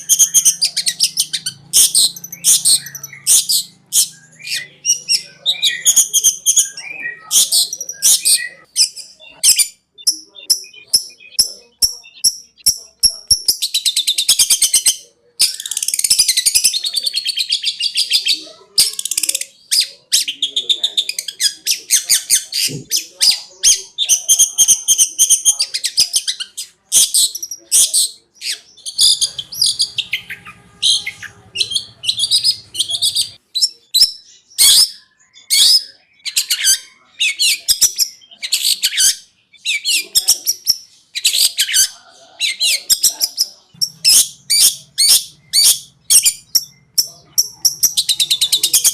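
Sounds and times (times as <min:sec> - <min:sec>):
shrike singing chattering song: 0:00.0 - 0:48.9.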